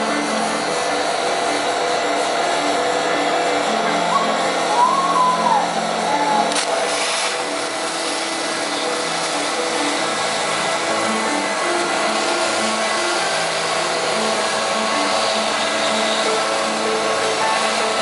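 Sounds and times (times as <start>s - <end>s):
cutting torch hissing: 0.0s - 18.0s.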